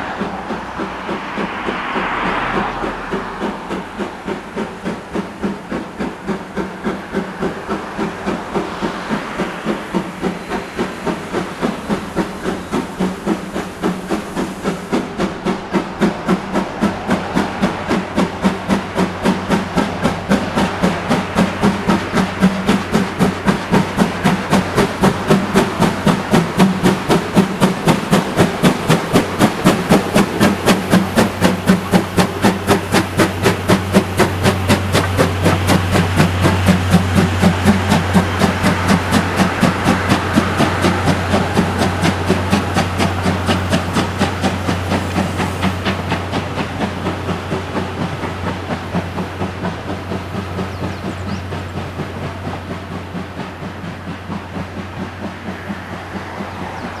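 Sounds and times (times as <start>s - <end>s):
steam hissing: 0.0s - 57.0s
steam locomotive exhaust chuffing: 0.0s - 57.0s.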